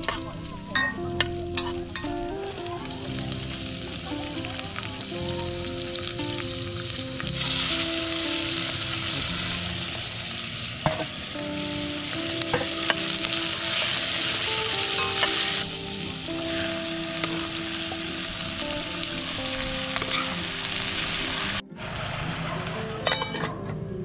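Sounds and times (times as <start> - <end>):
vegetables sizzling in a pot: 0.0 - 23.5.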